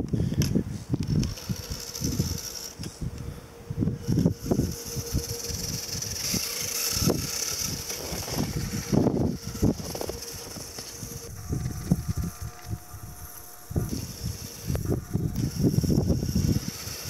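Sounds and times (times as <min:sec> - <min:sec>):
electric motor and gears whining: 0:00.0 - 0:17.0.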